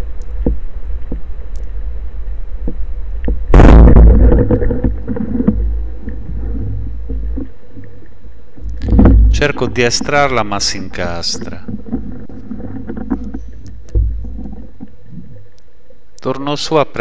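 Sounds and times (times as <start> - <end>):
underwater low rumble: 0.0 - 16.2.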